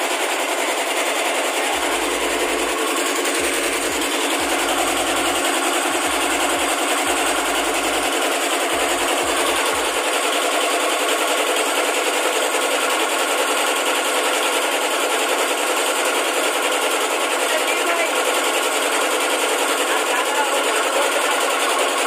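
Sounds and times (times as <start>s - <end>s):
machine rattling: 0.0s - 22.0s.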